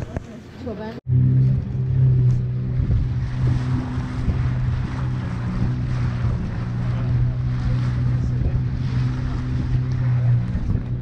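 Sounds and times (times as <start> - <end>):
boat engine humming: 0.0 - 11.0
water rushing past hull: 1.1 - 11.0
wind buffeting microphone: 1.1 - 11.0.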